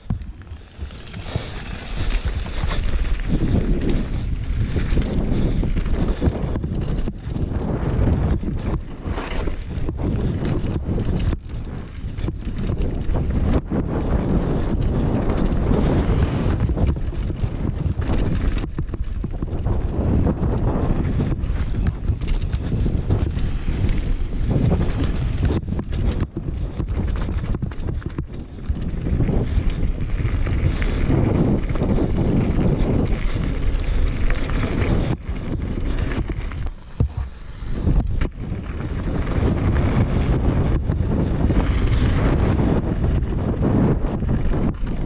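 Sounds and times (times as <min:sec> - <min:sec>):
bike rattling: 0:00.0 - 0:45.0
tyres rolling on gravel trail: 0:00.0 - 0:45.0
wind buffeting microphone: 0:00.0 - 0:45.0.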